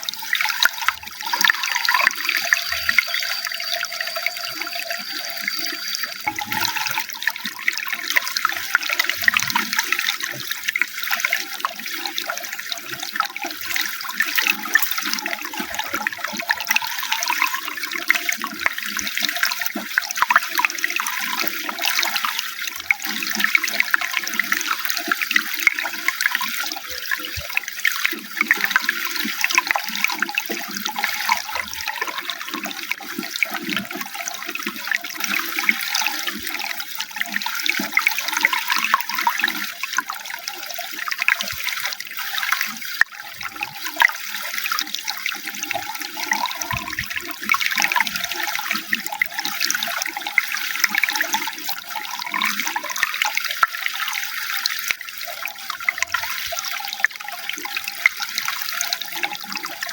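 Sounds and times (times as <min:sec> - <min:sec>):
running water splashing: 0:00.0 - 0:59.9.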